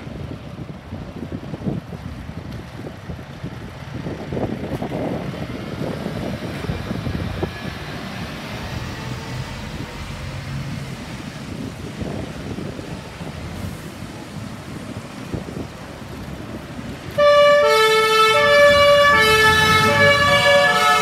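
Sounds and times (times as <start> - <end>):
fire truck diesel engine rumble: 0.0 - 21.0.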